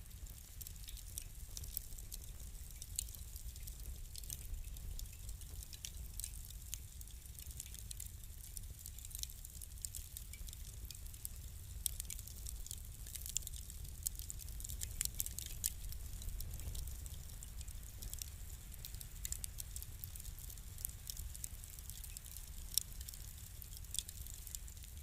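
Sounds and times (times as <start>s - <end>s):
low rumble of fire: 0.0s - 25.0s
wood fire crackling and popping: 0.0s - 25.0s.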